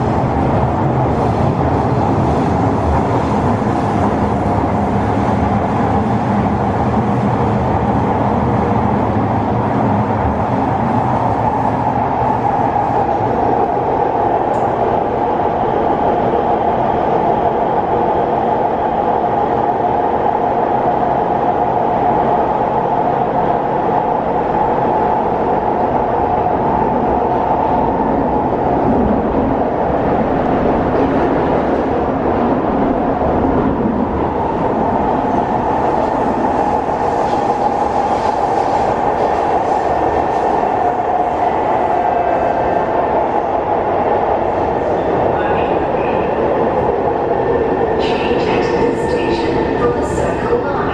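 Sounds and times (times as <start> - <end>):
metro train rumbling in tunnel: 0.0 - 50.9.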